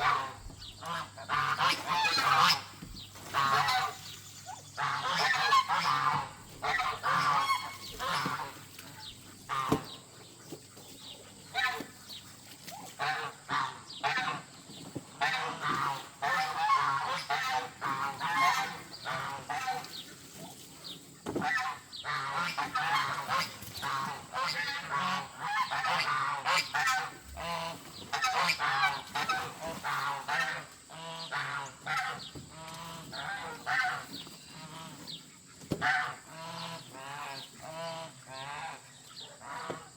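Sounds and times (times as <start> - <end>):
geese honking: 0.0 - 10.2, 11.5 - 12.0, 12.8 - 14.5, 15.2 - 20.6, 21.4 - 39.9.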